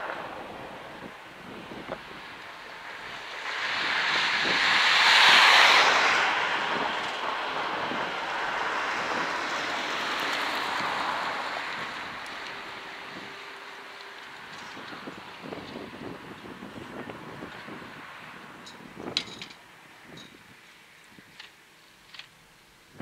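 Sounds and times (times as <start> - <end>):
car passing by: 0.0 - 18.7.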